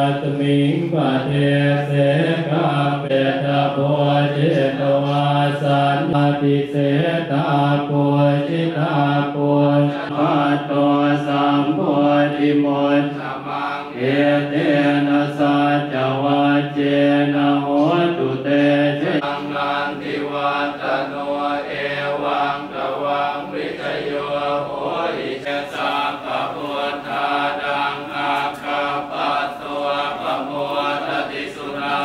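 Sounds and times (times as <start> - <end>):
monks chanting in unison: 0.0 - 32.0.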